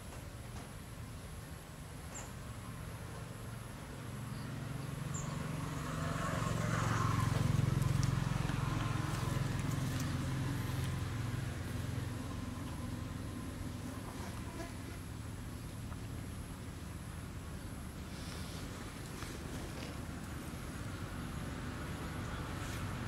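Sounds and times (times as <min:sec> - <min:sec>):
passing motor vehicle engine hum: 0:02.4 - 0:23.0.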